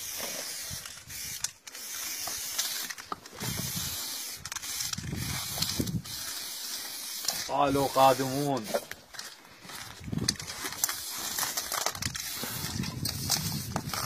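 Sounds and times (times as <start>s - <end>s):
spray-paint can hissing: 0.0s - 8.8s, 10.8s - 14.0s.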